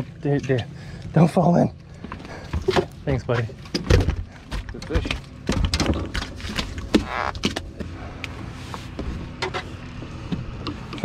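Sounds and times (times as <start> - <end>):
steady low hum: 0.0 - 11.0
handling knocks and rustles: 2.1 - 11.0.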